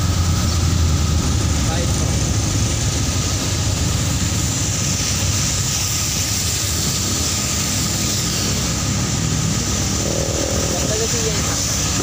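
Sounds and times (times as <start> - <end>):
tyres hissing on wet road: 0.0 - 12.0
vehicle engine drone: 0.0 - 12.0.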